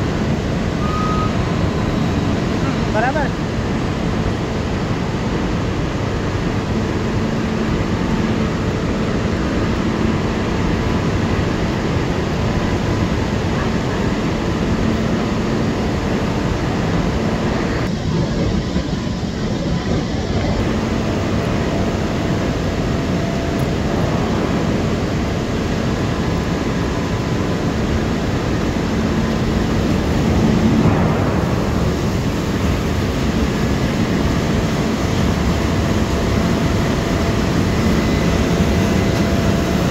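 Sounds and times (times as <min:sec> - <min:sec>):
crane mechanical rumble: 0:00.0 - 0:39.9
low hum: 0:05.9 - 0:39.9.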